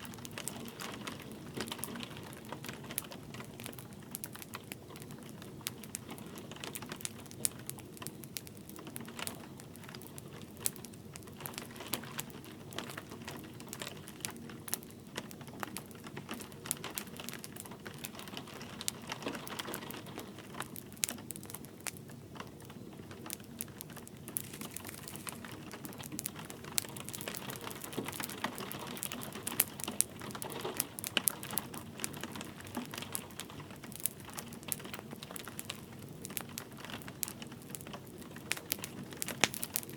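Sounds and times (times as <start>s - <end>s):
light rain hiss: 0.0s - 39.9s
wood fire crackling and popping: 0.0s - 39.9s.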